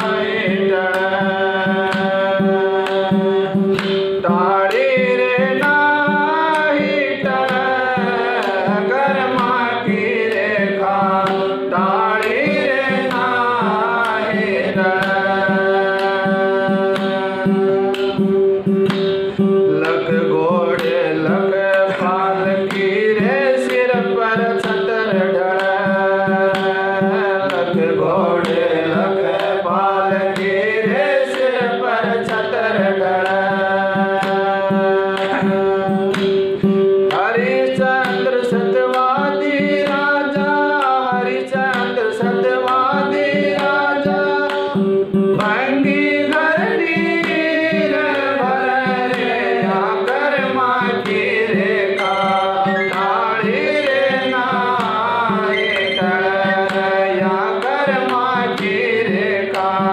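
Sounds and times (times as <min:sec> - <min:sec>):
light tapping beat: 0:00.0 - 0:59.9
man singing devotional song: 0:00.0 - 0:59.9.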